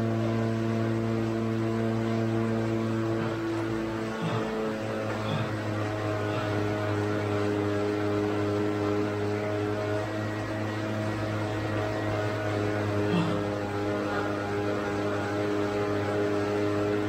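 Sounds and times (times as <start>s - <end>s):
bicycle trainer humming: 0.0s - 17.0s.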